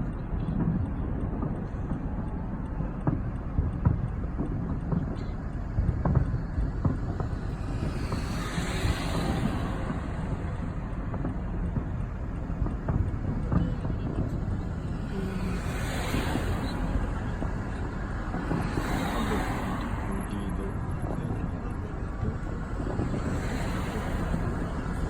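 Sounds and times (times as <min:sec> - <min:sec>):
low outdoor rumble: 0:00.0 - 0:25.0
wind buffeting microphone: 0:00.0 - 0:25.0.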